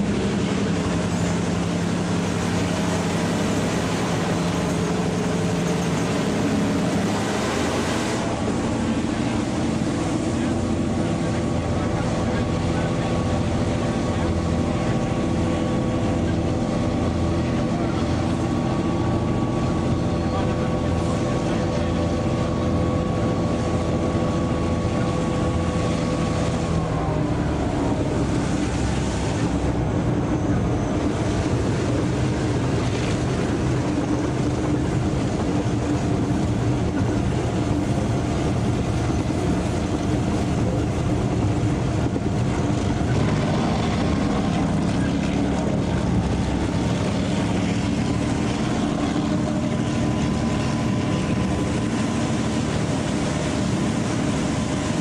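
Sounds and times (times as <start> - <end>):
diesel locomotive engines running: 0.0 - 55.0
rail noise: 0.0 - 55.0
wind: 0.0 - 55.0.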